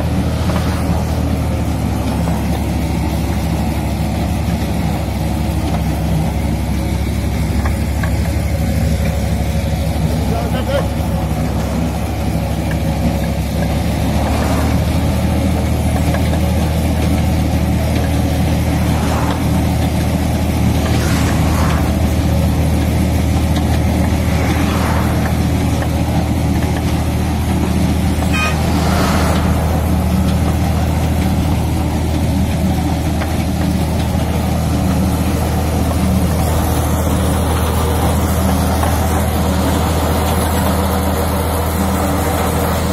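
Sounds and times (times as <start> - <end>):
tractor engine running under load: 0.0 - 42.9.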